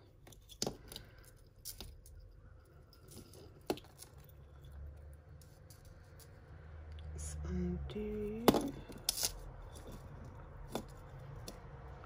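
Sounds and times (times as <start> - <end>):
jewellery clicking and clinking: 0.0 - 6.4, 8.1 - 11.9.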